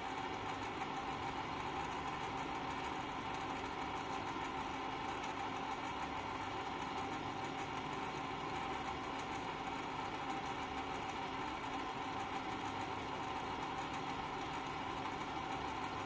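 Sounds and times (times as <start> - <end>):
valve actuator motor humming: 0.0 - 16.0.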